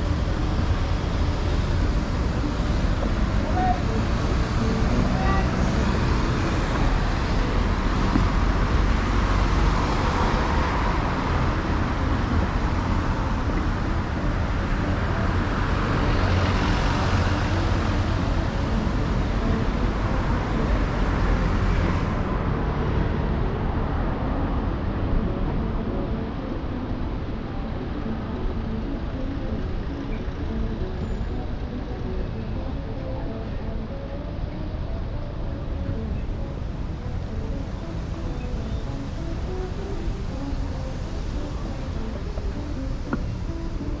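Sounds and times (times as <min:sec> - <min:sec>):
city street traffic: 0:00.0 - 0:44.0
vehicles passing: 0:00.0 - 0:44.0.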